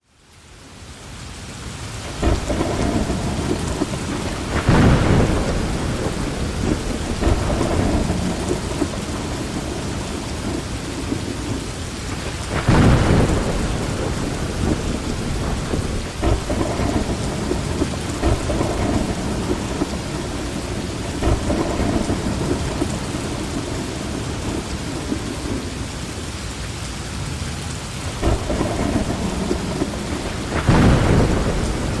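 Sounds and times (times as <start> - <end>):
heavy rain pouring: 0.0 - 32.0
thunder rolling: 2.0 - 25.8, 28.1 - 32.0.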